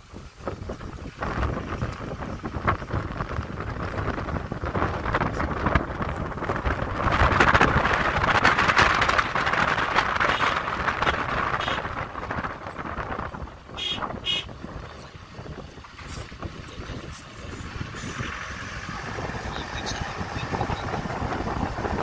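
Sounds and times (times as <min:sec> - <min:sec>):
tyre and road noise: 0:00.0 - 0:22.0
wind buffeting microphone: 0:00.0 - 0:22.0.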